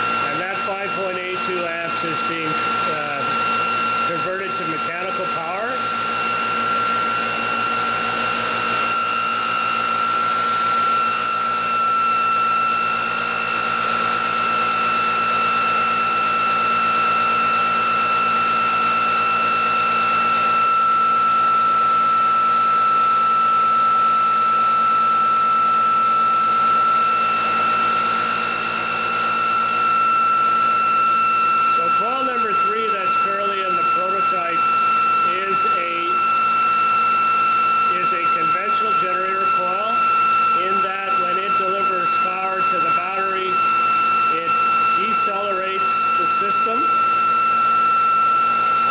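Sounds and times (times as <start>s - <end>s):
electric motor whining: 0.0s - 48.9s.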